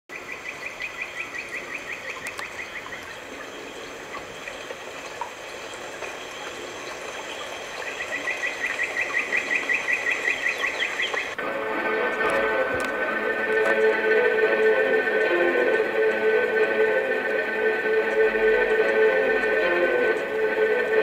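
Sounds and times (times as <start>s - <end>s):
outdoor hiss: 0.2s - 21.0s.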